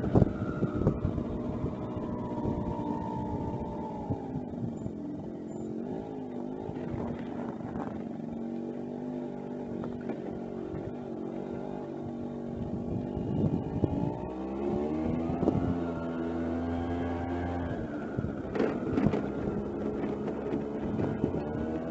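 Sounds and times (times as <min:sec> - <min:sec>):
scooter engine running: 0:00.0 - 0:21.9.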